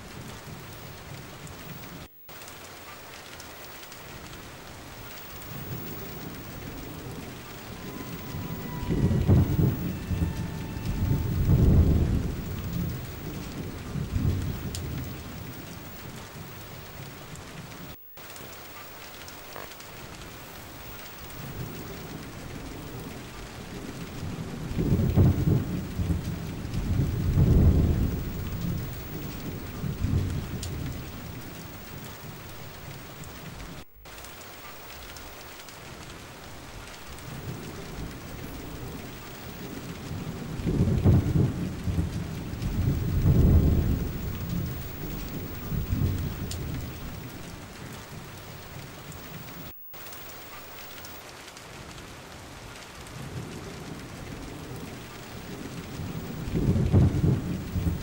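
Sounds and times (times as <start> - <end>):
steady rain: 0.0 - 58.0
low thunder rolls: 4.0 - 18.0, 19.2 - 34.3, 34.9 - 51.2, 53.2 - 58.0.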